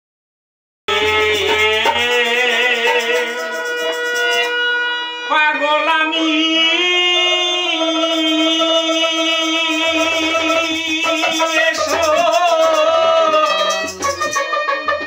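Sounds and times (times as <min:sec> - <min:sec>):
man singing: 0:00.9 - 0:04.6, 0:05.2 - 0:15.0
harmonium playing: 0:00.9 - 0:15.0.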